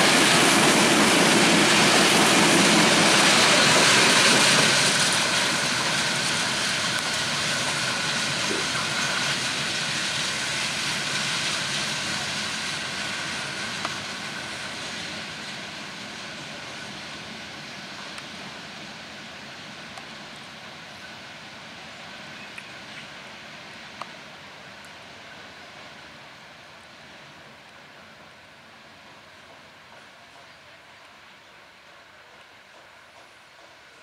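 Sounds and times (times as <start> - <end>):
train rolling past on track: 0.0 - 34.0.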